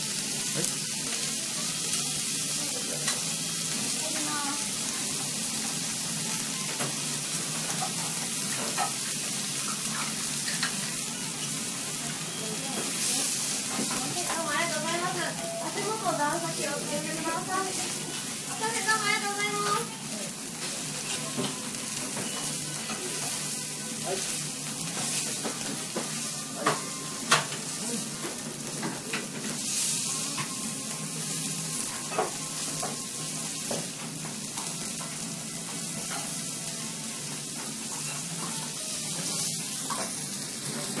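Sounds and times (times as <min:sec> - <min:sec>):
beef sizzling on a griddle: 0:00.0 - 0:41.0.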